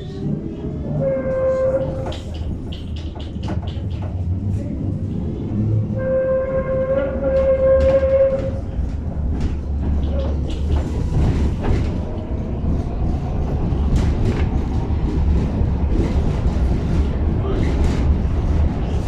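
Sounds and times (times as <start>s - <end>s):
rail clacks: 0.0s - 19.0s
tram rumbling along track: 0.0s - 19.0s.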